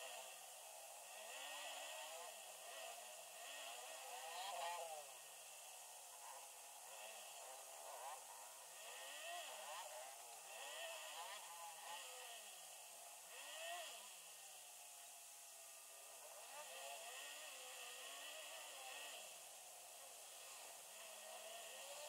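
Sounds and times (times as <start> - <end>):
faint car engine: 0.0 - 22.0.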